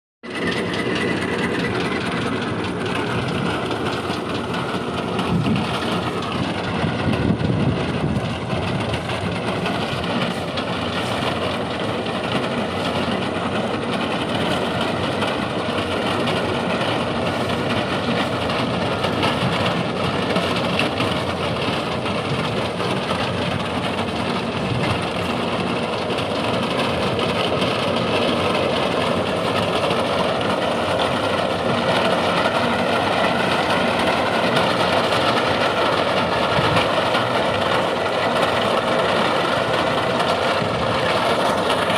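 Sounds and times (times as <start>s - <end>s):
tractor diesel engine running: 0.2s - 41.9s.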